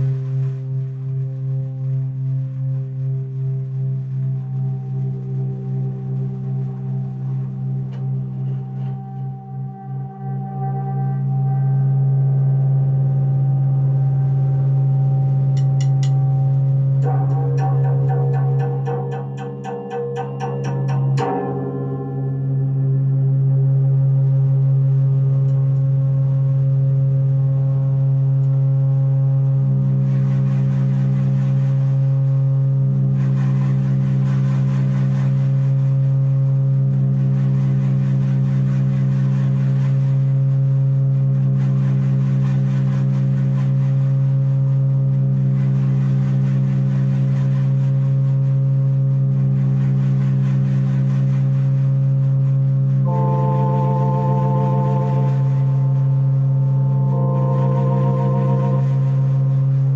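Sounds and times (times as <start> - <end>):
drone music with held tones: 0.0 - 59.9
noisy bright layer: 0.0 - 59.9.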